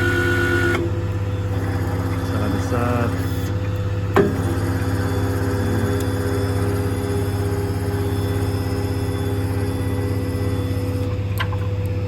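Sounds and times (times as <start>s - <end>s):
diesel engine running: 0.0s - 12.0s
hydraulic whine: 0.0s - 12.0s.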